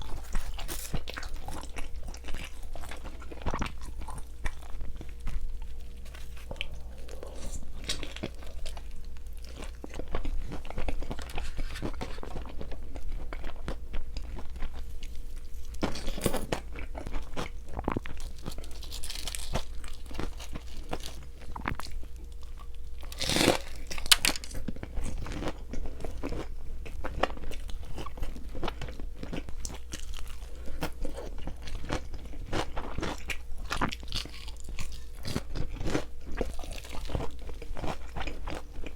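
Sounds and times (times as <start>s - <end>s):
crunching and chewing food: 0.0s - 38.9s
steady low hum: 0.0s - 38.9s.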